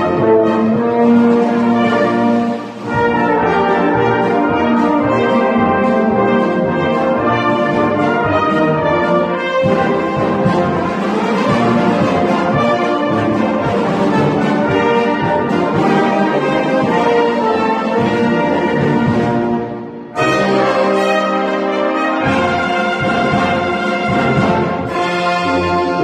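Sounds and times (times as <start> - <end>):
brass band playing chorale: 0.0 - 26.0.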